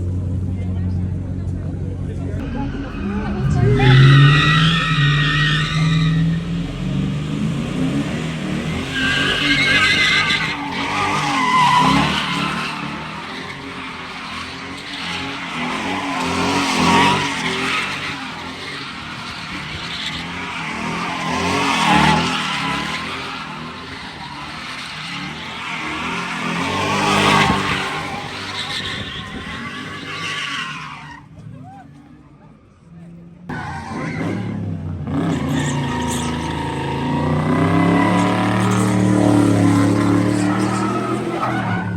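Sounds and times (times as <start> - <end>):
tyres squealing and skidding: 2.2 - 32.7, 33.5 - 41.9
car engine revving hard: 2.4 - 30.2, 33.8 - 41.9.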